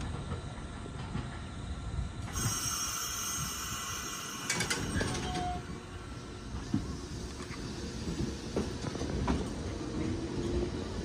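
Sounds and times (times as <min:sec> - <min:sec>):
electric train rumble: 0:00.0 - 0:11.0
train high whine: 0:00.0 - 0:11.0.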